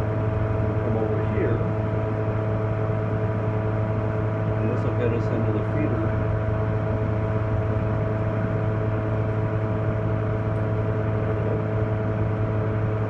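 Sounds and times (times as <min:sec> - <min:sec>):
cooling fan whirring: 0:00.0 - 0:13.0.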